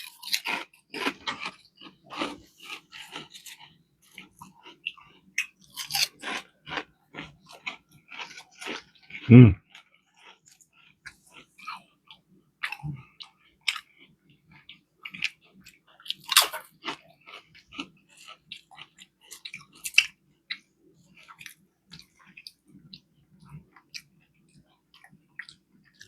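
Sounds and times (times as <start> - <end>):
chewing with wet mouth clicks: 0.0 - 26.0.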